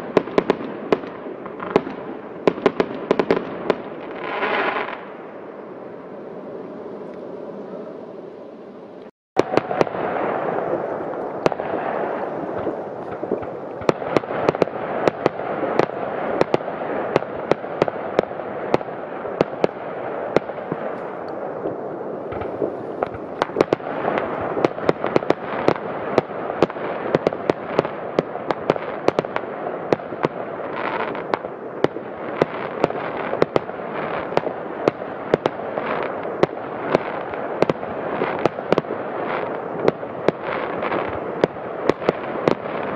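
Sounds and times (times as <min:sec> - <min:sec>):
fireworks bangs and cracks: 0:00.0 - 0:05.2, 0:09.4 - 0:42.9
distant fireworks explosions: 0:00.0 - 0:42.9.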